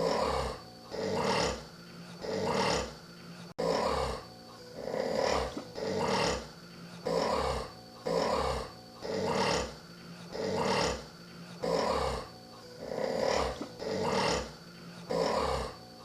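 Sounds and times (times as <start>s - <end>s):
person snoring: 0.0s - 15.8s.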